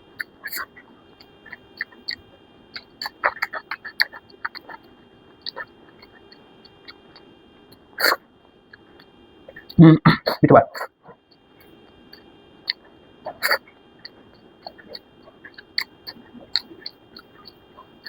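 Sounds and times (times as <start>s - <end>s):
chewing and mouth smacks: 0.2s - 9.8s, 10.8s - 18.0s.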